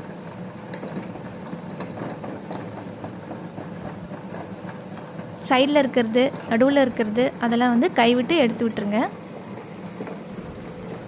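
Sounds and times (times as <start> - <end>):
wet grinder motor hum: 0.7 - 11.0.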